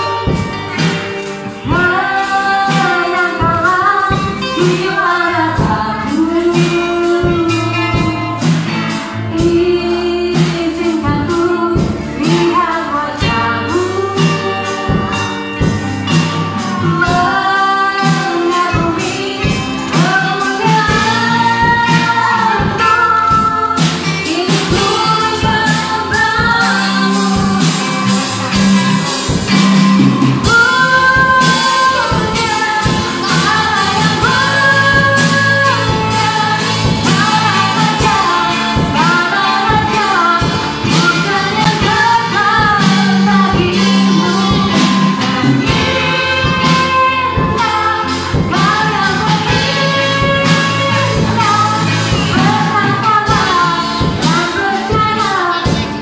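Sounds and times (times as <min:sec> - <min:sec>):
amplified band with beat: 0:00.0 - 0:56.0
woman singing gospel: 0:00.0 - 0:56.0.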